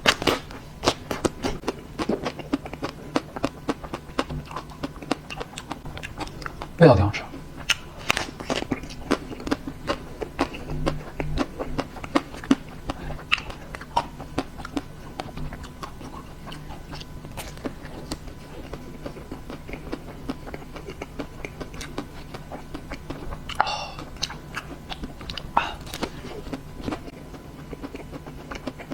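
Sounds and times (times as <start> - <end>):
biting and chewing: 0.0 - 28.9.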